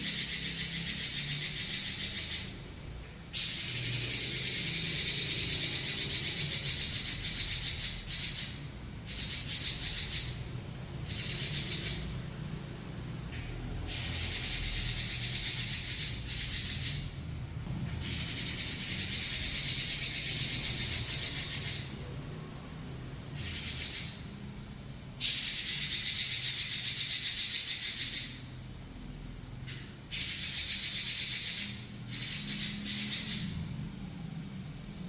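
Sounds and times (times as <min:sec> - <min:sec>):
bird singing rolling trills: 0:00.0 - 0:12.8, 0:13.5 - 0:17.4, 0:18.0 - 0:28.6, 0:30.1 - 0:35.0.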